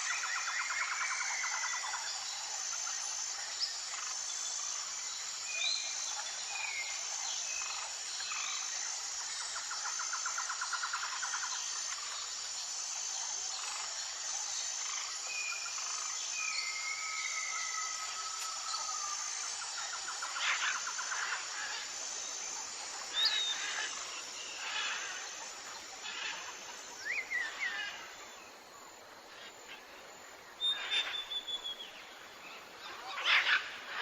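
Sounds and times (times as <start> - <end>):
insects chorus: 0.0 - 34.0.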